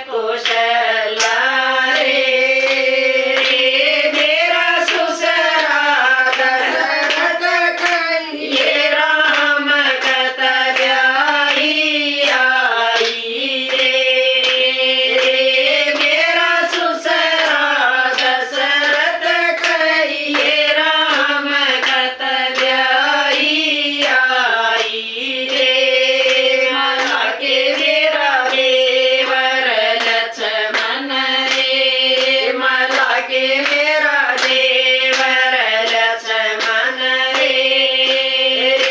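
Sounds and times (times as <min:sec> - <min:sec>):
rhythmic hand claps: 0:00.0 - 0:38.9
women singing in unison: 0:00.0 - 0:38.9.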